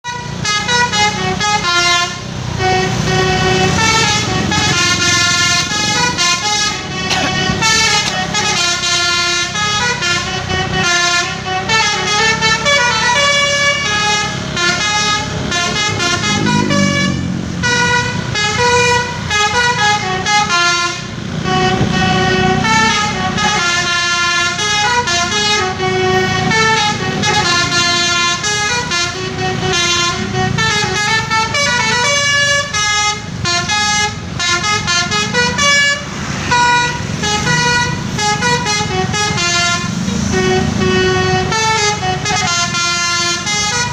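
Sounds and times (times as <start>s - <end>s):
bus engine running: 0.0s - 43.9s
melodic air horn playing tune: 0.0s - 43.9s.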